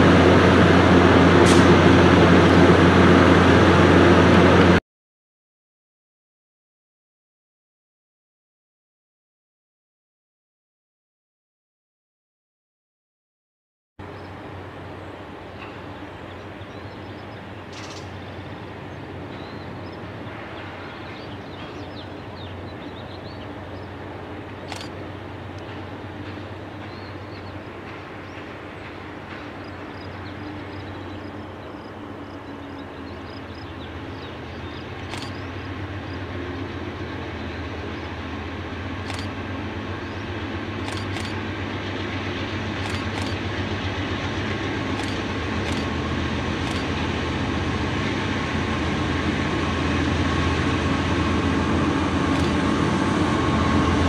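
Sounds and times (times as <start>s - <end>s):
diesel locomotive engine drone: 0.0s - 4.8s, 14.0s - 54.0s.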